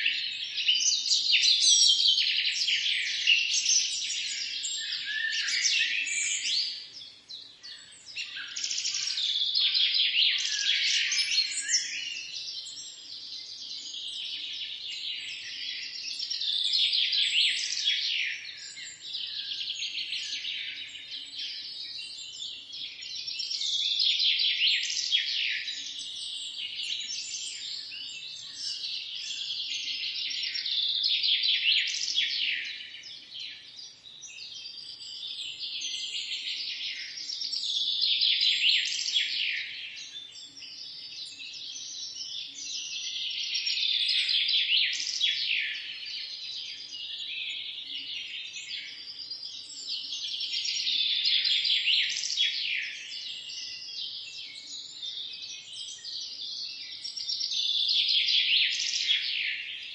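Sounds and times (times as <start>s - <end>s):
birds chirping and singing: 0.0s - 59.9s.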